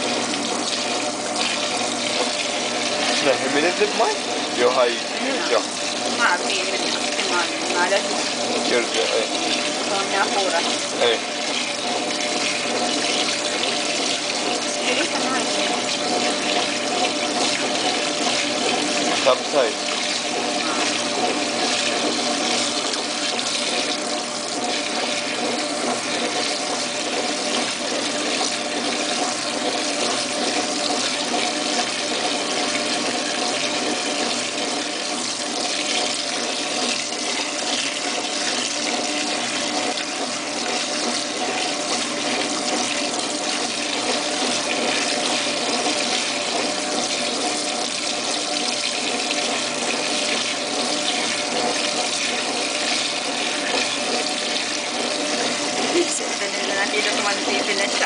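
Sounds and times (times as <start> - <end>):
water rushing in washing machine: 0.0 - 58.0.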